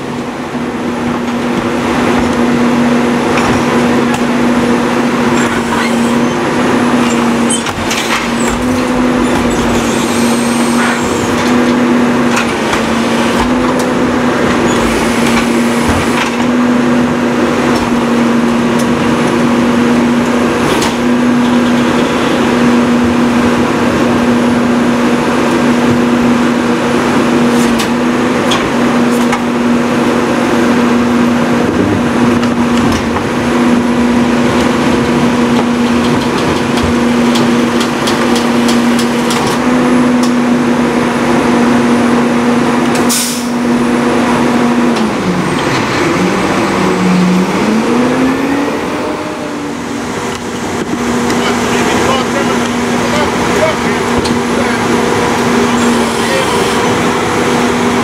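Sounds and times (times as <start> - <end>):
garbage truck engine running: 0.0 - 58.0
hydraulic hum: 0.0 - 58.0.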